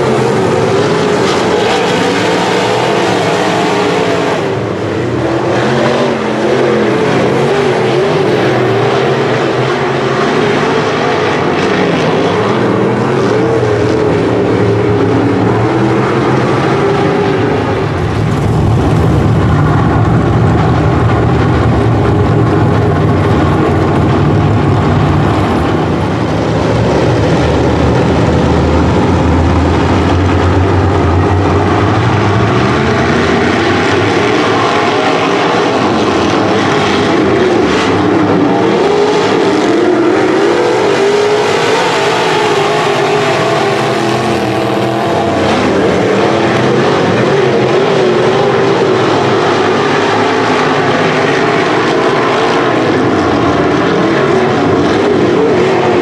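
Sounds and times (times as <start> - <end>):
race car engines running hard: 0.0 - 56.0.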